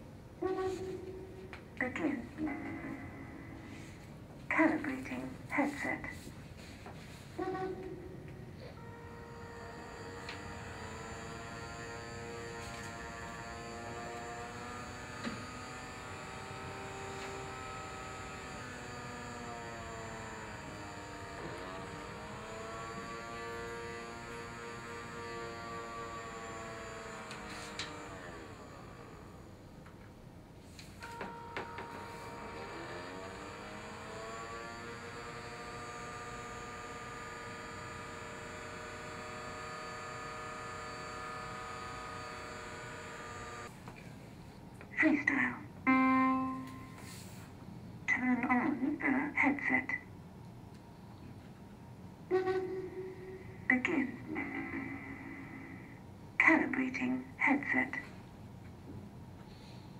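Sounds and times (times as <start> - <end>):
small electric fan whining: 0.0 - 59.9.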